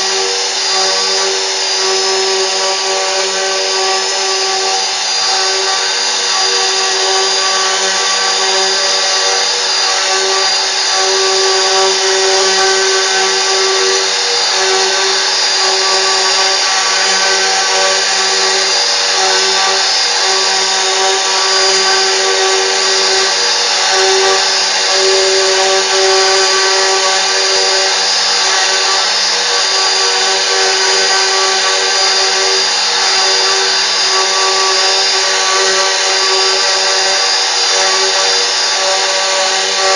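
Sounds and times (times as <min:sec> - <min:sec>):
machine spindle whine: 0:00.0 - 0:39.9.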